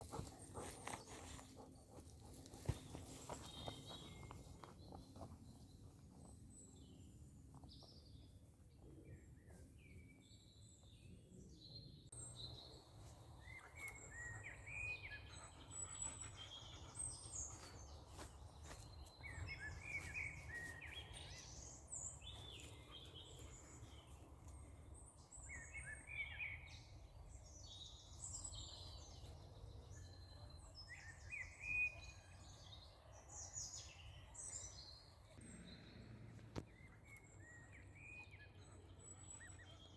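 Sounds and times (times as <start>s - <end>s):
small birds singing and chirping: 0.0s - 39.9s.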